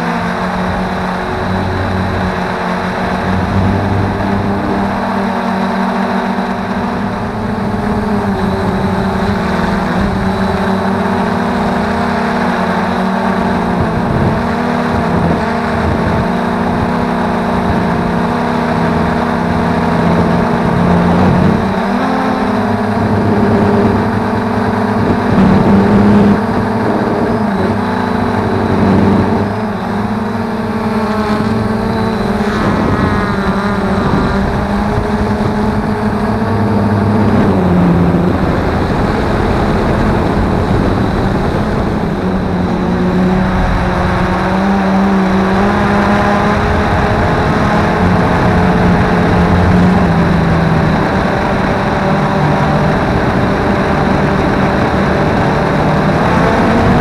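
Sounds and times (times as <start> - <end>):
quadcopter motors whining: 0.0 - 57.0.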